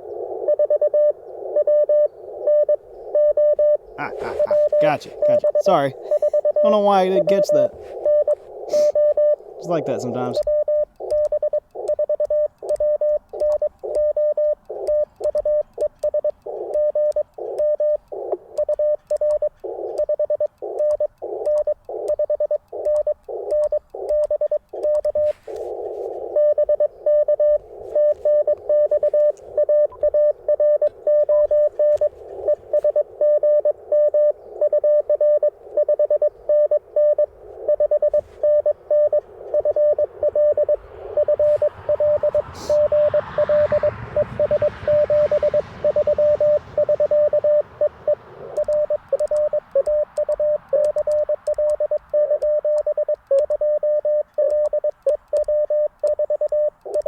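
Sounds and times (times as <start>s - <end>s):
morse code tones: 0.0s - 57.0s
receiver hiss: 0.0s - 57.0s.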